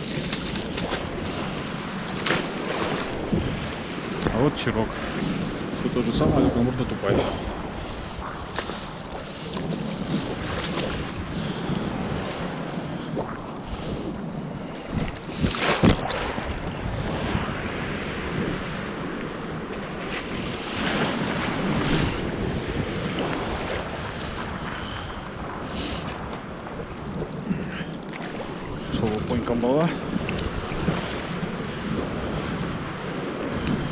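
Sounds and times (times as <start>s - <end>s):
surf washing and foaming: 0.0s - 33.9s
wind buffeting microphone: 0.0s - 33.9s.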